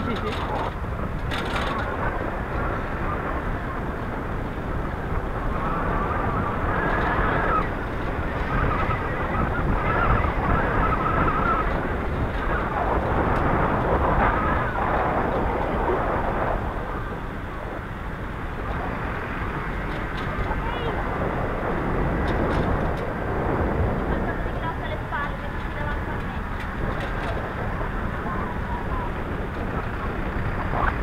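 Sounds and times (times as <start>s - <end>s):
street traffic: 0.0s - 31.0s
wind rumbling on microphone: 0.0s - 31.0s.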